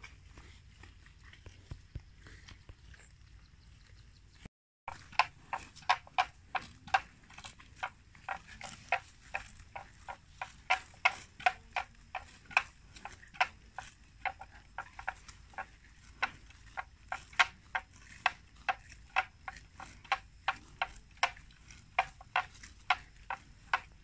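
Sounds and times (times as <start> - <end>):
water buffalo tearing grass: 0.0 - 3.0, 4.9 - 24.0.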